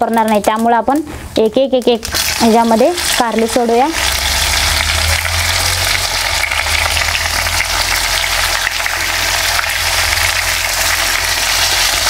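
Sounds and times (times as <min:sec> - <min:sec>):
frying in hot oil: 0:00.0 - 0:12.0.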